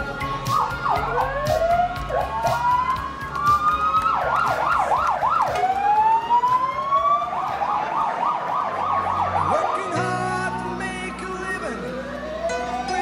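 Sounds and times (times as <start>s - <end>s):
fire truck siren wailing and yelping: 0.0s - 10.9s, 11.6s - 13.0s.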